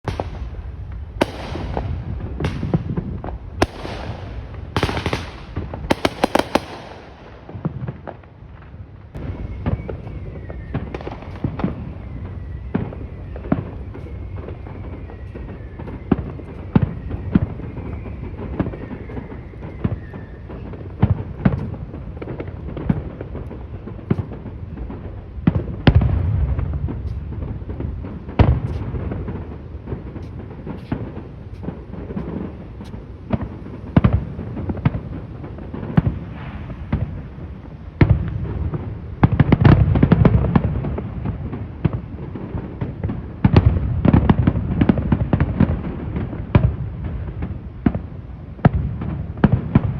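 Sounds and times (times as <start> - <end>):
crackling pops of fireworks: 0.0 - 49.9
fireworks bangs and booms: 0.0 - 49.9.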